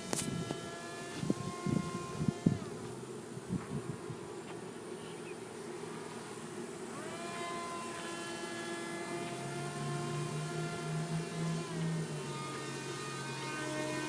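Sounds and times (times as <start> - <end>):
rc plane motor buzzing: 0.0 - 3.2, 5.8 - 14.0.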